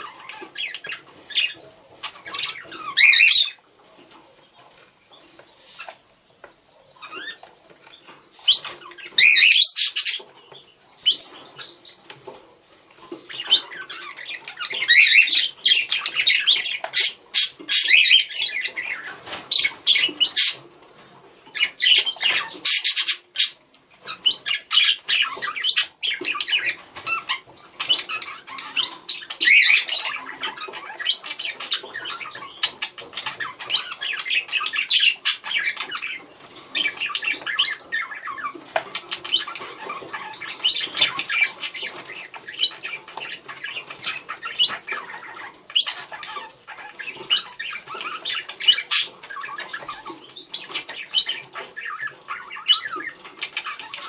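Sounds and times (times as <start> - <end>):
budgerigars chattering: 0.0 - 3.7, 6.8 - 12.2, 13.1 - 20.7, 21.5 - 54.0.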